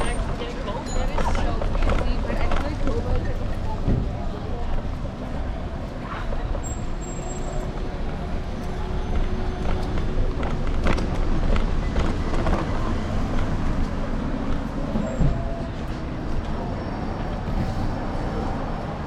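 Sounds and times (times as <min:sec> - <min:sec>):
city traffic: 0:00.0 - 0:19.0
wind and road noise rumble: 0:00.0 - 0:19.0.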